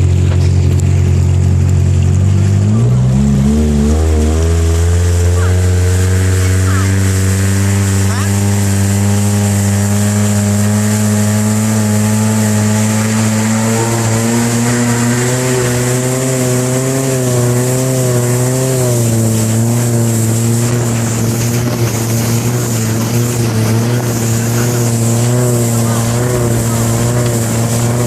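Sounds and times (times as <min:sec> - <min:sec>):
boat engine running hard: 0:00.0 - 0:28.0
rushing hiss: 0:03.4 - 0:28.0.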